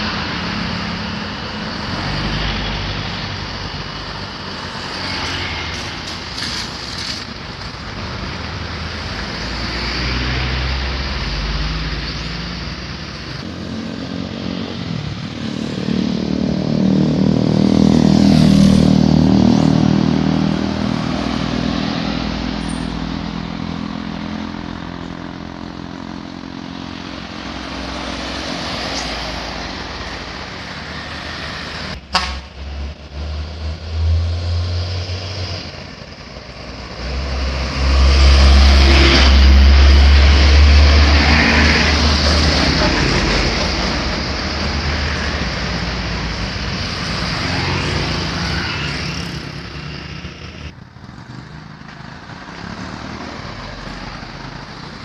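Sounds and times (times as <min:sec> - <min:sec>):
motor vehicles passing: 0:00.0 - 0:55.0.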